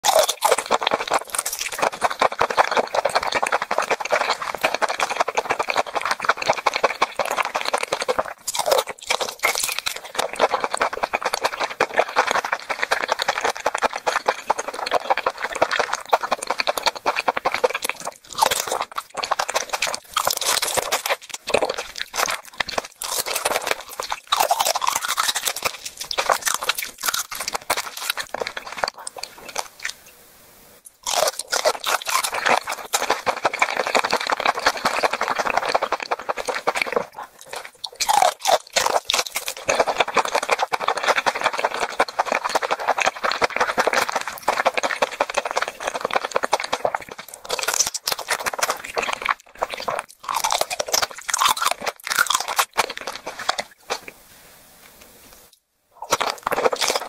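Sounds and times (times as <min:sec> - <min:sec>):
crunching and chewing crab: 0:00.0 - 0:30.1, 0:30.8 - 0:54.2, 0:55.4 - 0:57.0.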